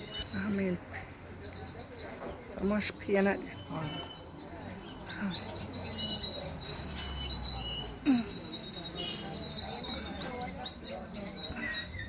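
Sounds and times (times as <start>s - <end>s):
small animals chirping and squeaking: 0.0s - 12.0s.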